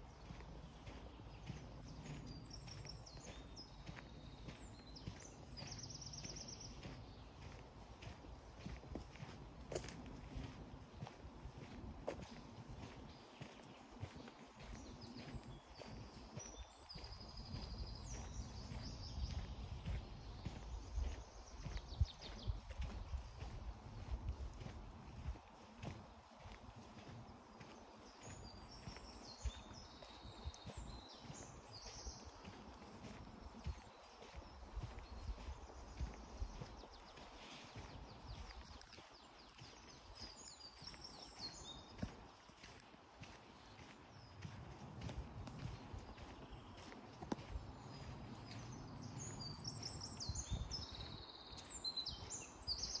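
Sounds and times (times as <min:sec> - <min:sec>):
footsteps on dirt path: 0:00.0 - 0:53.0.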